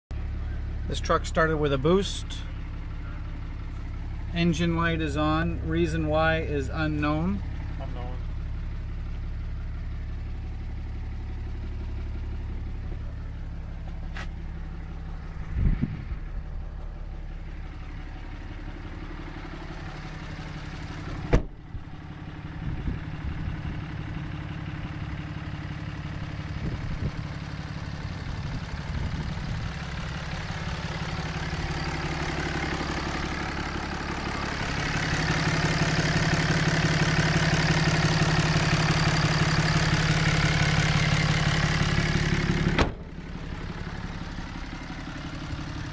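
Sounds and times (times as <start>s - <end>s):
diesel engine idling: 0.1s - 45.9s.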